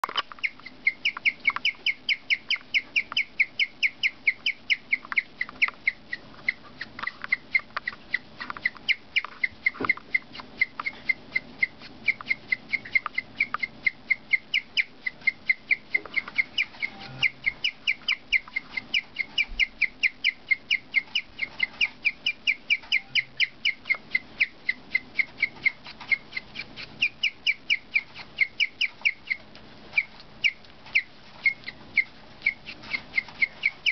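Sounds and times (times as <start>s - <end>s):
guinea pig chirping: 0.0s - 33.9s.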